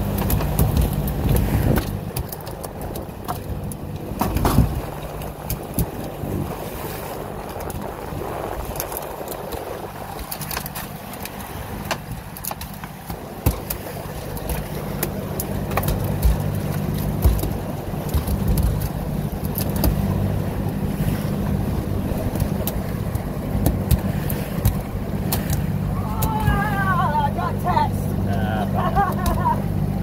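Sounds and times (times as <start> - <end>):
boat engine running: 0.0 - 30.0
water rushing past hull: 0.0 - 30.0.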